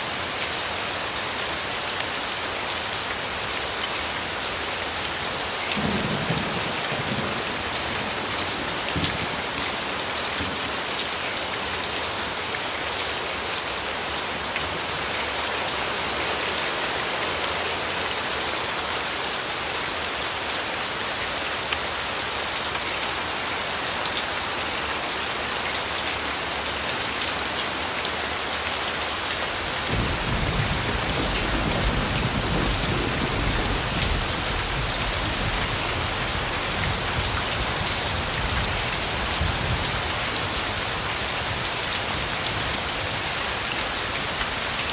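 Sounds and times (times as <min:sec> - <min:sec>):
rain falling on a surface: 0:00.0 - 0:44.9.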